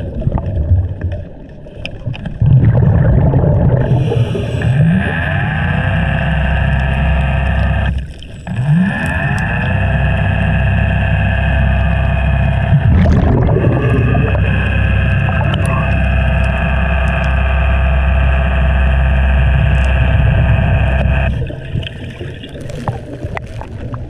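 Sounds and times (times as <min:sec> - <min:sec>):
underwater motorboat engine whine: 0:00.0 - 0:24.0.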